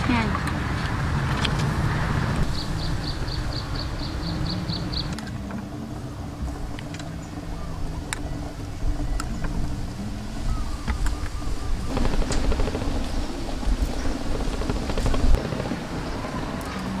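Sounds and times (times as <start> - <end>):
low motor drone: 0.0 - 17.0.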